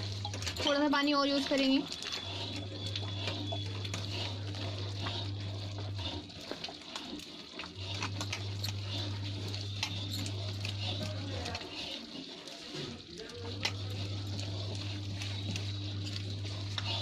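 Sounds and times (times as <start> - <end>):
batter squelching and slapping: 0.0 - 17.0.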